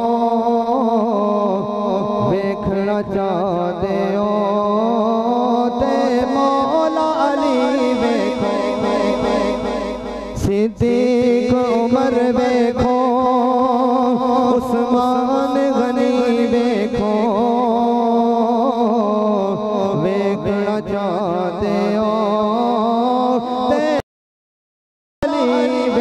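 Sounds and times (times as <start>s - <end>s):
man singing into a microphone: 0.0s - 24.0s, 25.2s - 26.0s.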